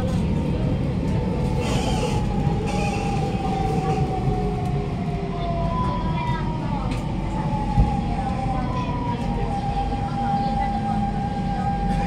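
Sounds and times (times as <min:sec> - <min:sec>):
wheels rumbling on track: 0:00.0 - 0:12.0.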